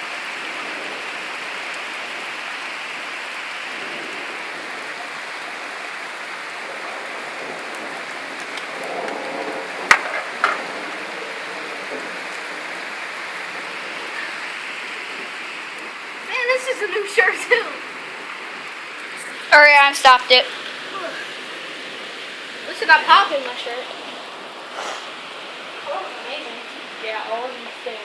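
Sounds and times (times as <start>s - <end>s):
rain hissing: 0.0s - 28.0s.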